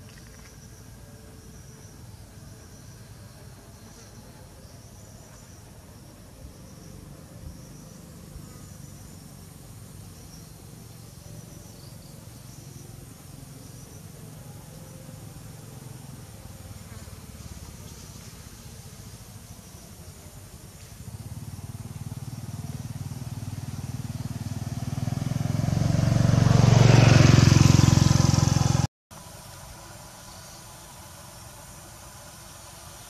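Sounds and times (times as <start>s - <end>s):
insects trilling faintly: 0.0s - 33.0s.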